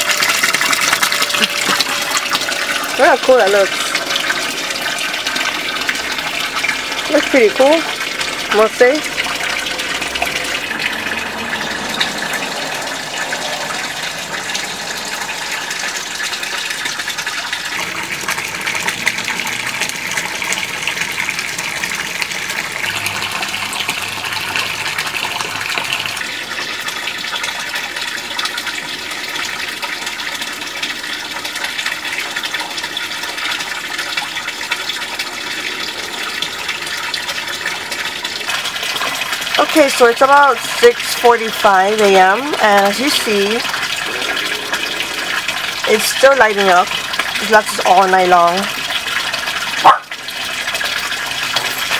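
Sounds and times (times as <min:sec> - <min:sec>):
fountain water splashing into pond: 0:00.0 - 0:51.9.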